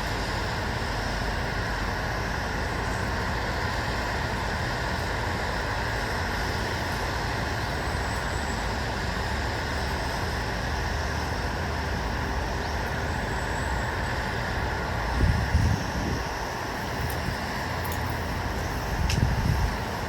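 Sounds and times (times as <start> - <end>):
hissing ambient noise: 0.0 - 20.0.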